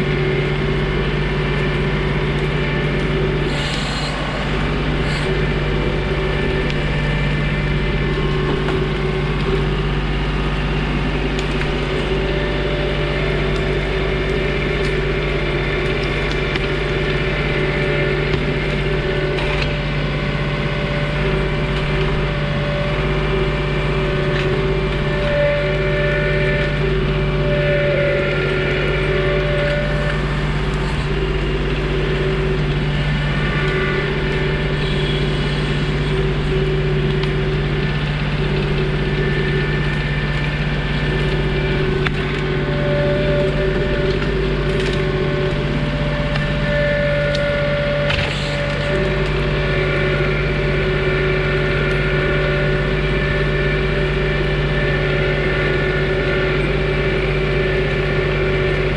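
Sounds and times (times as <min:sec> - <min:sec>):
high whine: 0:00.0 - 0:58.9
tractor diesel engine running: 0:00.0 - 0:58.9.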